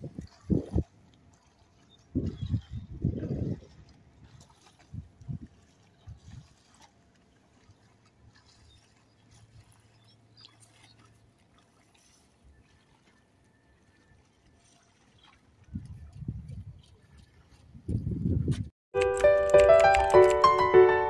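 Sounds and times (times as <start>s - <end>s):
sea water lapping and splashing: 0.0s - 18.4s.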